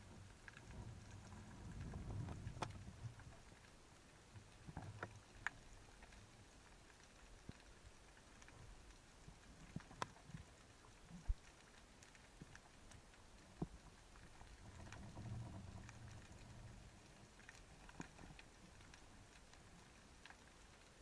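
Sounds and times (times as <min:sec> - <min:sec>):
sharp clicks and crackles: 0:00.0 - 0:21.0
soft underwater hiss: 0:00.0 - 0:21.0.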